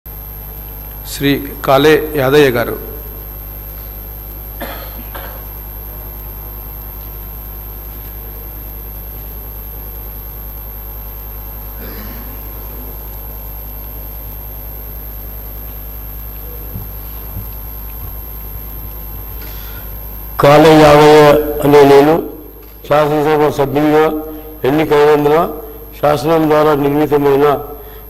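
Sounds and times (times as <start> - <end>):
steady low hum: 0.1 - 28.0
thin high whine: 0.1 - 28.0.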